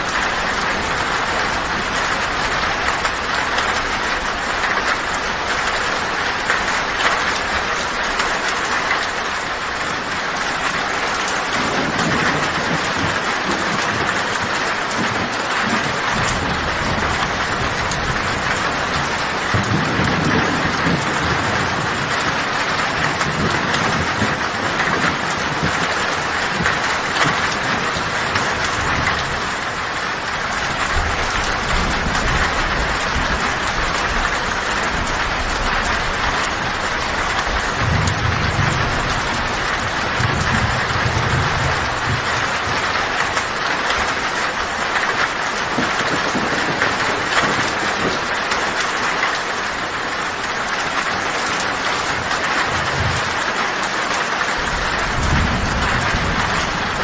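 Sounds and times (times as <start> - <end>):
heavy rain on a tin roof: 0.0 - 57.0
low thunder rumbling: 0.0 - 57.0.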